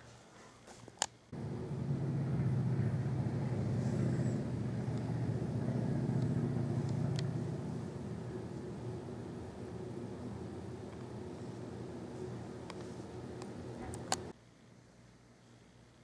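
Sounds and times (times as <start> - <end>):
desk globe spinning whir: 1.3 - 14.4.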